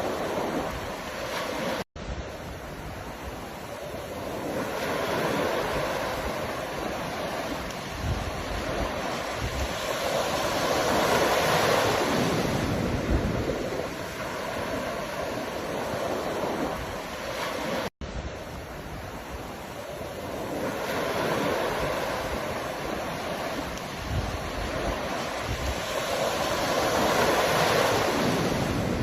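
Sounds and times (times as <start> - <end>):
ocean surf breaking on shore: 0.0 - 29.0.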